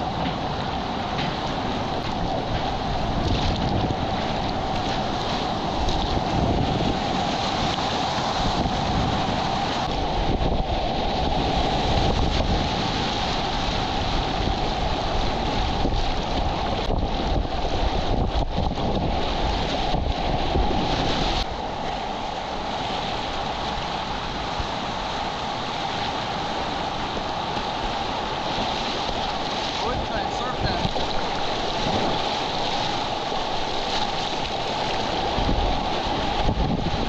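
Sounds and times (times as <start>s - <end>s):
rushing whitewater: 0.0s - 37.0s
wind buffeting the microphone: 0.0s - 37.0s.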